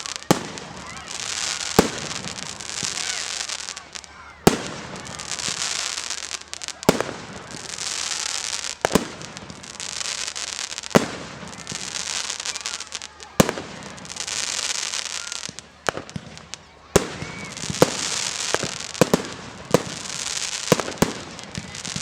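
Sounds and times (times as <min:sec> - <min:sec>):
fireworks crackling and fizzing: 0:00.0 - 0:22.0
fireworks shells bursting: 0:00.0 - 0:22.0.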